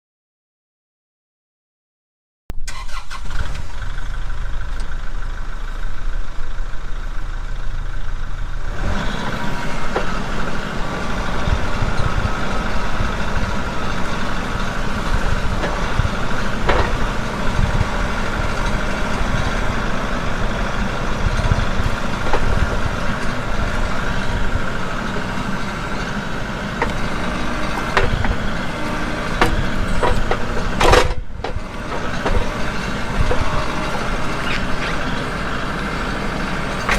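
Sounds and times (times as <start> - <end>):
sawmill engine running: 3.9 - 36.9.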